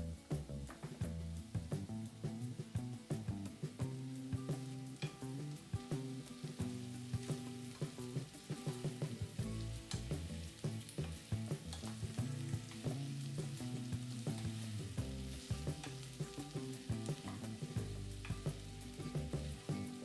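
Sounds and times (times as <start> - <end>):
food sizzling in oil: 0.0 - 20.0
stirring clicks: 0.0 - 20.0.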